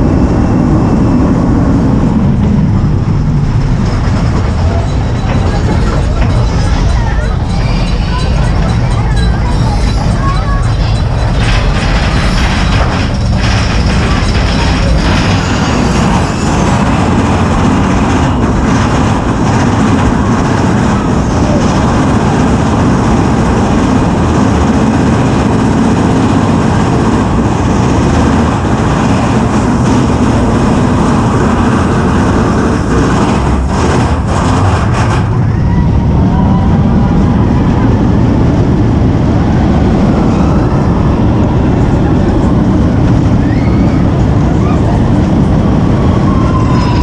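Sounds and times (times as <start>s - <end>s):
roller coaster wheels rumbling on rail: 0.0s - 47.0s
rushing noise: 0.0s - 47.0s.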